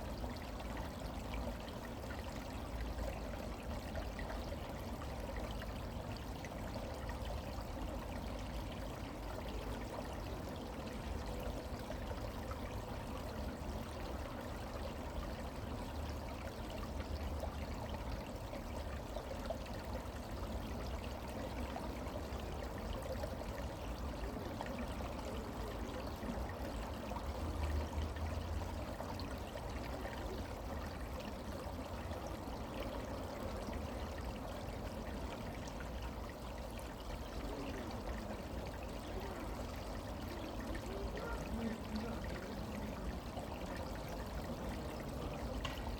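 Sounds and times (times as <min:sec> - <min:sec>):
brook water rushing: 0:00.0 - 0:45.9.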